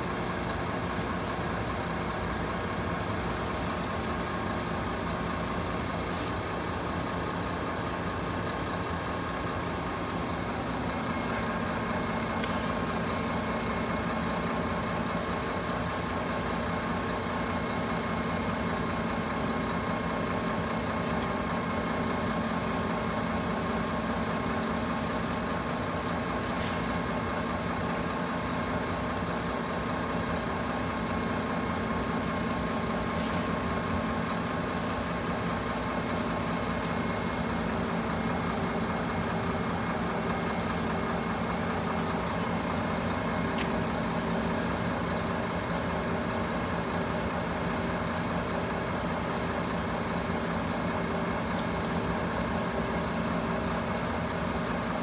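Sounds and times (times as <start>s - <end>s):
vehicle engines idling: 0.0s - 55.0s.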